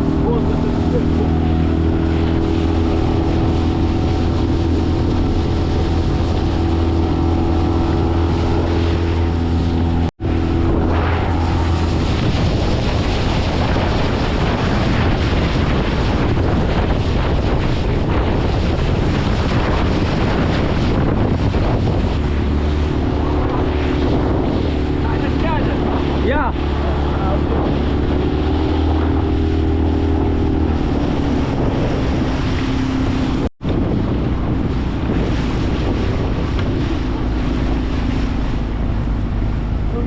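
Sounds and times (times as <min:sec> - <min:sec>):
outboard motor running: 0:00.0 - 0:40.0
water rushing past hull: 0:00.0 - 0:40.0
wind buffeting microphone: 0:00.0 - 0:40.0.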